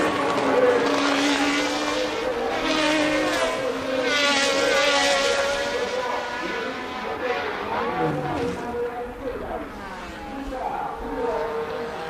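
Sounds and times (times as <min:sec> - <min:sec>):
racing car engines at high revs: 0:00.0 - 0:12.0.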